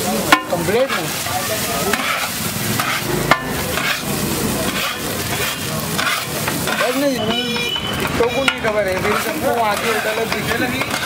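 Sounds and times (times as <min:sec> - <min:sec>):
metal spatula scraping: 0:00.0 - 0:11.0
rice sizzling on a griddle: 0:00.0 - 0:11.0
spatula clanking on griddle: 0:00.0 - 0:11.0.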